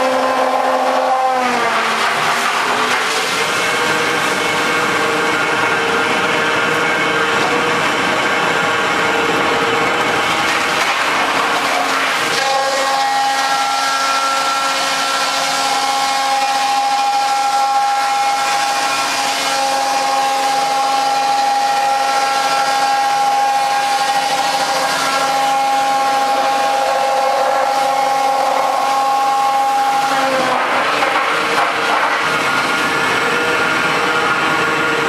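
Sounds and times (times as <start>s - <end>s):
sawdust machine whining and rushing: 0.0s - 35.0s.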